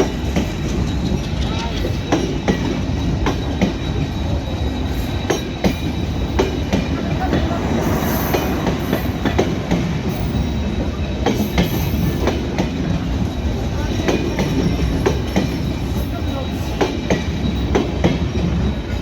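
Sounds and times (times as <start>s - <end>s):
wheels clacking over rail joints: 0.0s - 18.8s
train wheels rumbling on rails: 0.0s - 19.0s.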